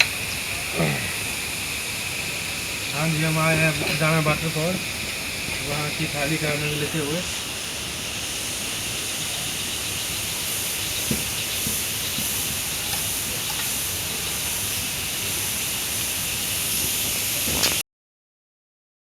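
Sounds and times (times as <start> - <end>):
waterfall rushing: 0.0 - 17.8.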